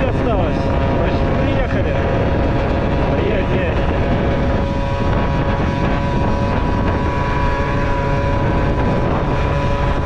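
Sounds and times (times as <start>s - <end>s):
moped engine whine: 0.0s - 10.0s
wind noise on microphone: 0.0s - 10.0s.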